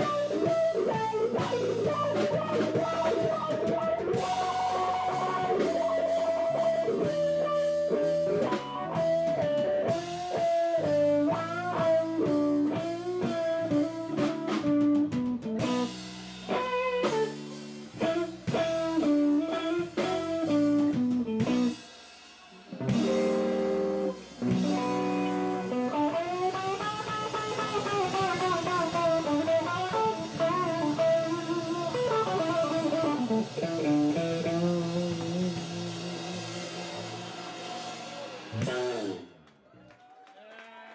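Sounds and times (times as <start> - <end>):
electric guitar lead lines: 0.0 - 21.8, 22.7 - 39.4
bass: 0.0 - 40.0
drums: 0.0 - 40.4.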